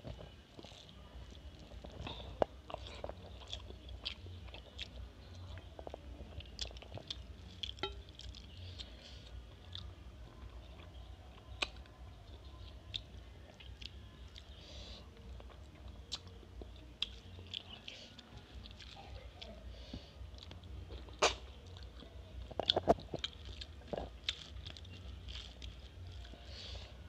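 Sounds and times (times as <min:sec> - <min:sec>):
chewing food: 0:00.0 - 0:27.0
low steady hum: 0:00.0 - 0:27.0.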